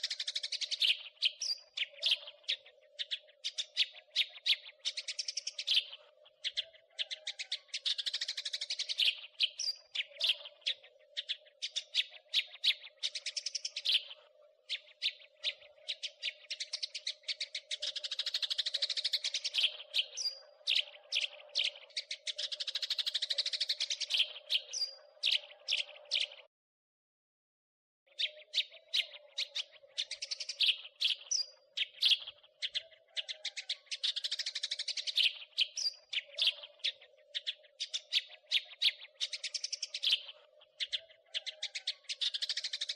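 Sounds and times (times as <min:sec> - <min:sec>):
sparrows chattering: 0:00.0 - 0:26.5, 0:28.1 - 0:42.9.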